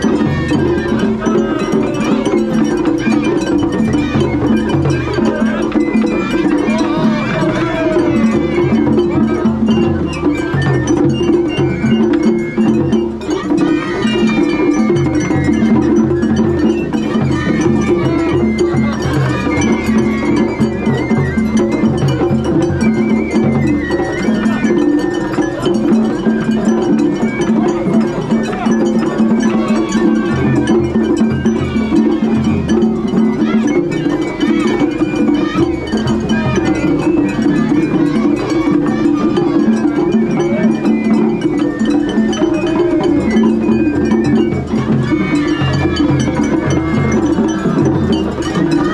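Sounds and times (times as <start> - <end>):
festival music: 0.0 - 48.9
metallic clanging beat: 0.0 - 48.9.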